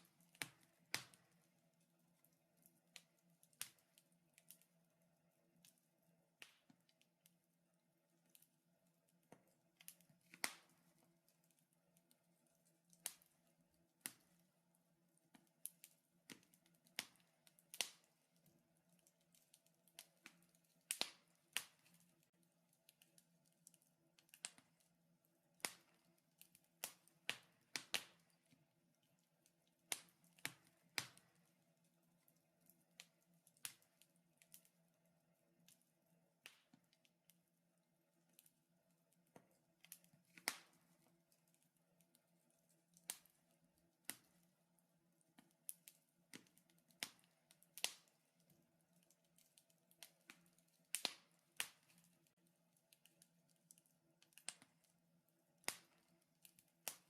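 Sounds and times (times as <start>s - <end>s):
wood fire crackling and popping: 0.0s - 7.4s, 8.1s - 35.0s, 35.6s - 37.4s, 38.2s - 55.0s, 55.6s - 57.0s.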